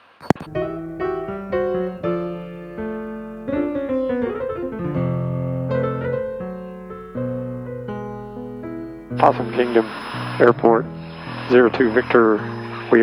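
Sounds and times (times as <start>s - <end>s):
piano music: 0.4s - 13.0s.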